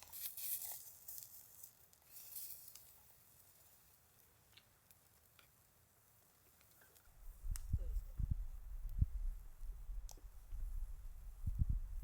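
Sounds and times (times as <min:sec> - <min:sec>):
faint soft crackling: 0:00.0 - 0:11.8.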